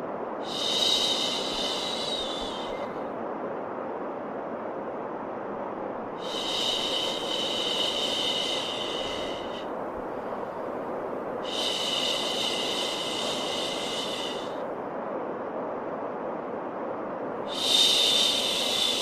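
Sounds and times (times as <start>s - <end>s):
steady white noise: 0.0s - 19.0s.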